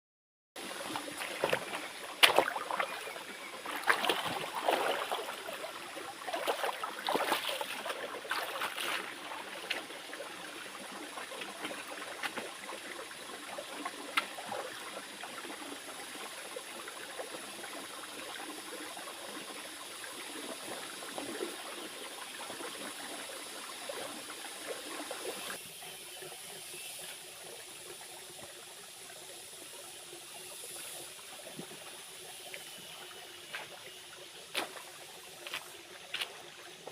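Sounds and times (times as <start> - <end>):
stream water flowing: 0.6 - 36.9.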